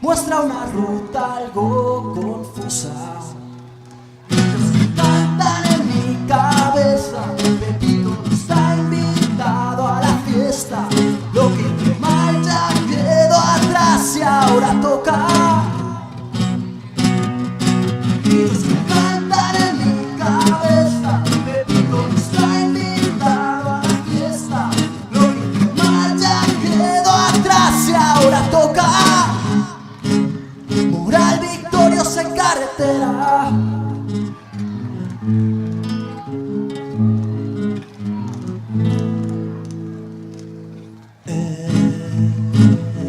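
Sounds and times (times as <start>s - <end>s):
strummed acoustic guitar: 0.0s - 43.0s.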